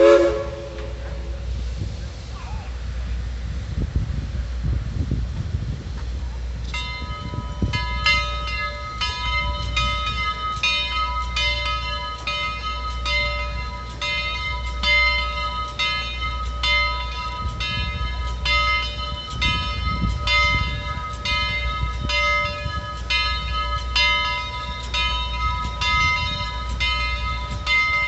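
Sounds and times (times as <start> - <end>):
locomotive bell ringing: 0.0 - 1.6, 6.6 - 28.0
locomotive low rumble: 0.0 - 28.0.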